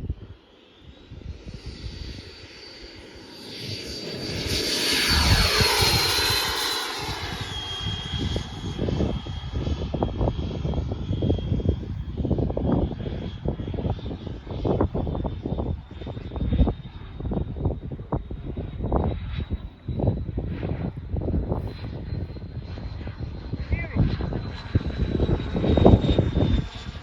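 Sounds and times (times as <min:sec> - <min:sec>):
model jet fan whining: 0:00.0 - 0:27.0
wind buffeting microphone: 0:03.6 - 0:27.0.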